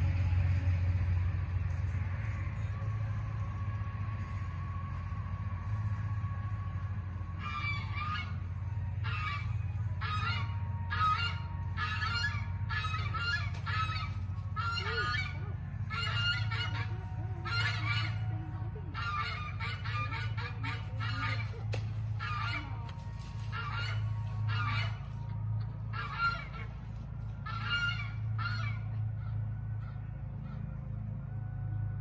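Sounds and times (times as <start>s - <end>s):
birds honking: 0.0s - 32.0s
steady low hum: 0.0s - 32.0s.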